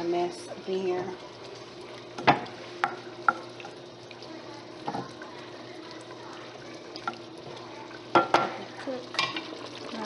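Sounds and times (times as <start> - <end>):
meat sizzling in a skillet: 0.0 - 10.0.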